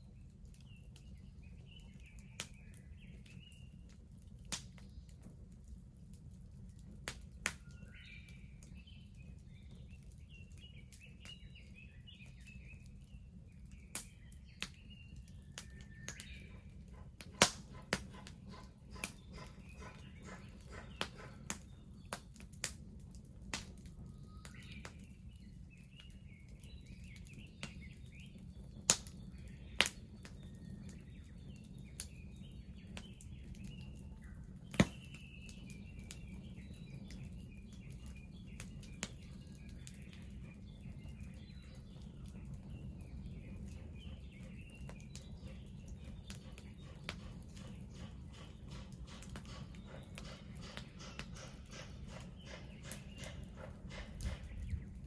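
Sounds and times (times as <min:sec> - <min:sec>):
bonfire crackling and popping: 0:00.0 - 0:55.0
birds chirping and singing: 0:07.5 - 0:22.8, 0:23.6 - 0:55.0.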